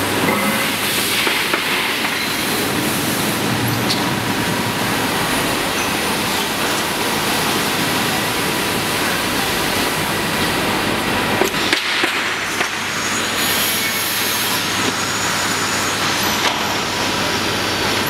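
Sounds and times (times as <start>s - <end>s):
machine clattering and hissing: 0.0s - 18.0s.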